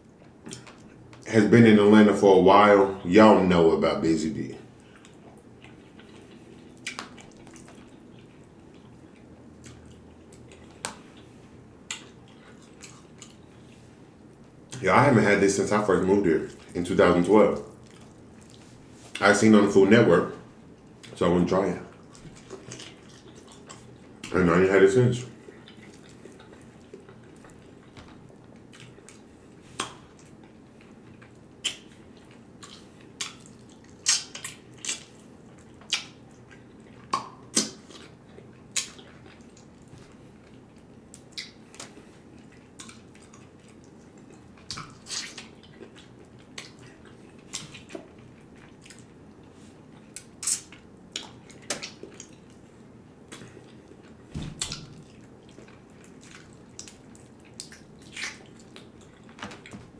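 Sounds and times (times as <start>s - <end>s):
wet chewing and lip smacks: 0.1s - 1.3s, 4.8s - 14.8s, 17.6s - 19.3s, 21.9s - 24.4s, 25.3s - 59.9s.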